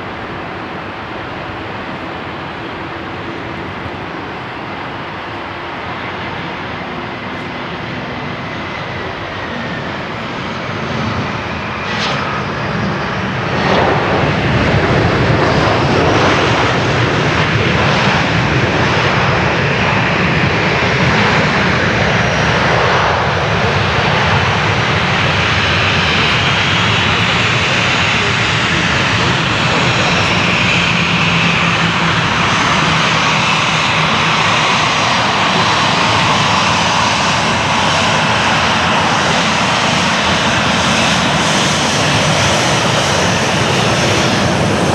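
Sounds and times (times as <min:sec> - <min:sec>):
jet airliner engine roar: 0:00.0 - 0:44.9.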